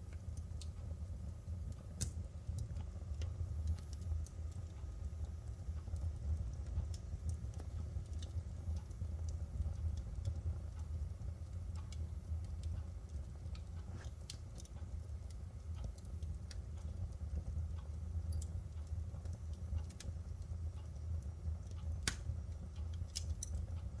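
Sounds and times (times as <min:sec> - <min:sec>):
fire low rumble: 0:00.0 - 0:24.0
firewood crackling and popping: 0:00.0 - 0:24.0.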